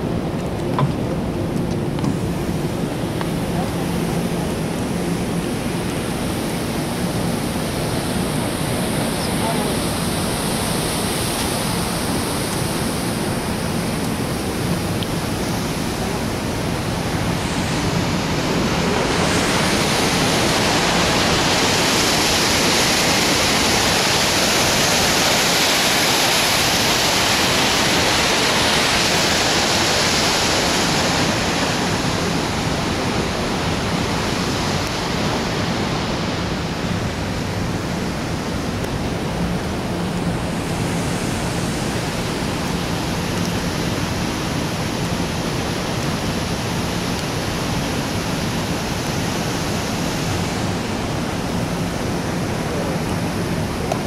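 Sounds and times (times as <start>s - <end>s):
water roaring down a spillway: 0.0s - 54.0s.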